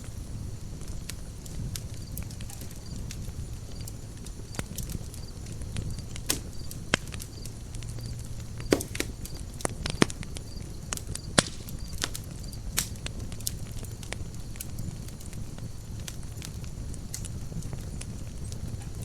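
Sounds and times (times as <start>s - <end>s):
campfire crackling: 0.0s - 19.0s
rumble of flames: 0.0s - 19.0s
sharp fire pops: 0.0s - 19.0s.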